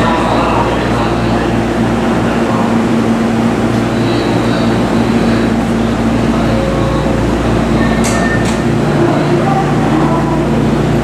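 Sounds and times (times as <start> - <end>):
station background noise: 0.0 - 11.0
train equipment humming: 0.0 - 11.0.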